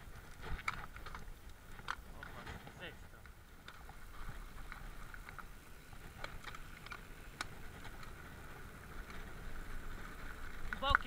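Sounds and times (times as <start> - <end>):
bike clicks and rattles: 0.0 - 11.0
tyres rumbling on dirt: 0.0 - 11.0.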